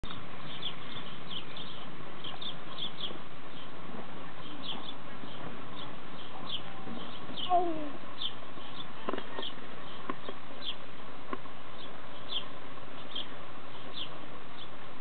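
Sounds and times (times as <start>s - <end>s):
small birds chirping: 0.0s - 14.8s
background hiss: 0.0s - 15.0s.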